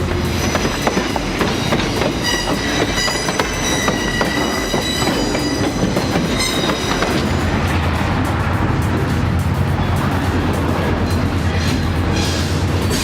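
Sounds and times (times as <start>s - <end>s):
freight train wagons rolling: 0.0s - 13.0s
steel wheels squealing: 0.0s - 13.0s
wheels clicking over rail joints: 0.0s - 13.0s.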